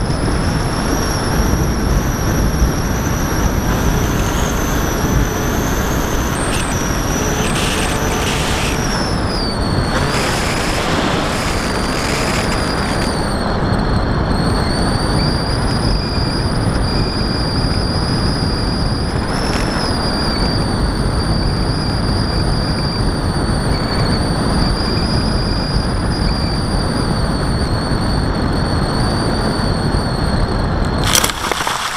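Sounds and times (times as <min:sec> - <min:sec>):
electric motor and propeller whine: 0:00.0 - 0:31.9
wind rush on camera: 0:00.0 - 0:31.9.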